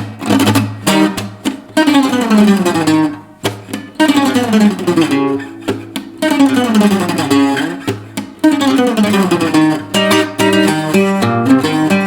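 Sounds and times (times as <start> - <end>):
guitar chord strums and runs: 0.0 - 12.0.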